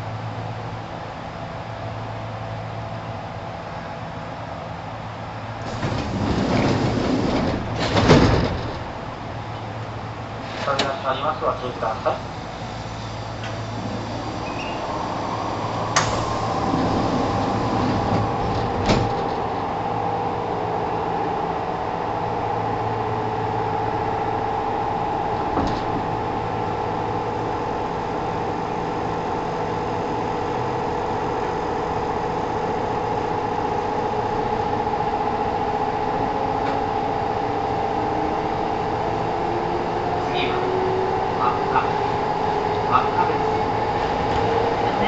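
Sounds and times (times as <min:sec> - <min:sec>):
train equipment humming: 0:00.0 - 0:45.0.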